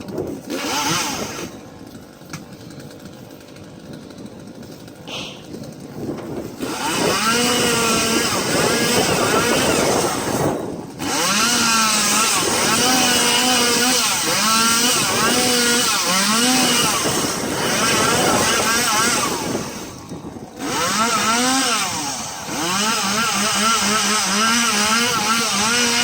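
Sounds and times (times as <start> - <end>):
chainsaw revving and cutting: 0.0 - 26.0.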